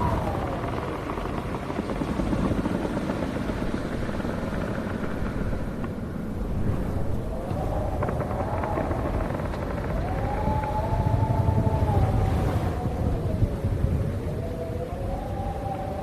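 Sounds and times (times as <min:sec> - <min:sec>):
strong wind gusting: 0:00.0 - 0:16.0
whistling wind howl: 0:00.0 - 0:16.0.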